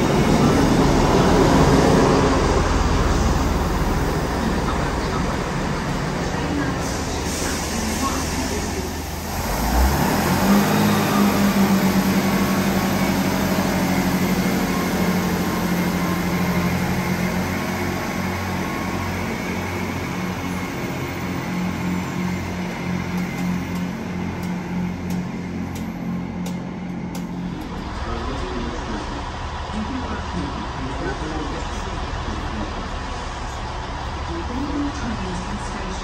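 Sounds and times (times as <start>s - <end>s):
train diesel engines: 0.0s - 36.0s.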